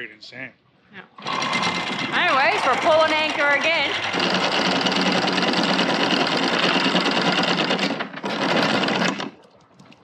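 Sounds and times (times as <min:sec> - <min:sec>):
anchor windlass running: 0:01.2 - 0:09.4.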